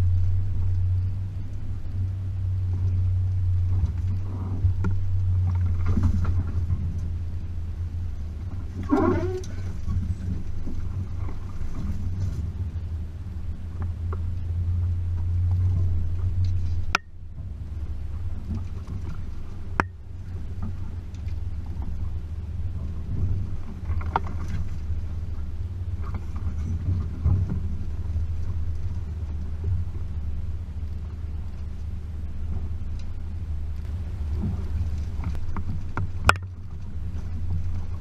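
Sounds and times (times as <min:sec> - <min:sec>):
engine droning at low speed: 0:00.0 - 0:38.0.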